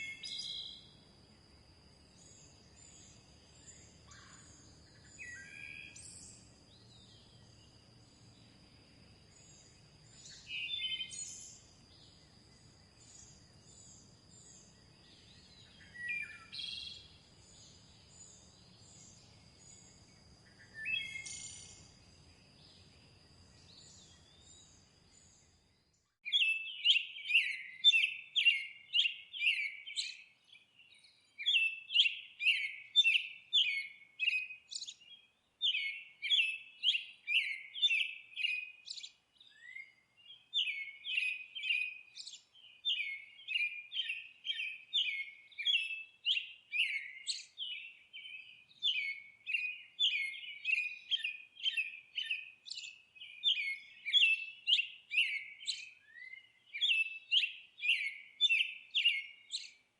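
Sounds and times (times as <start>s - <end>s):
small songbirds twittering: 0.0s - 59.9s.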